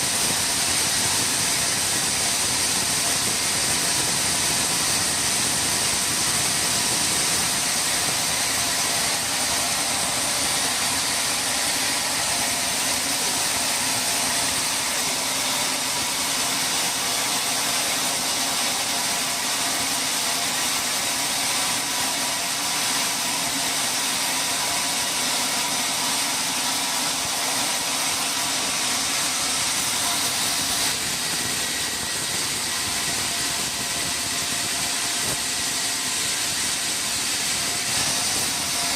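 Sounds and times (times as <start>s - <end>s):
sawmill machinery hissing: 0.0s - 38.9s.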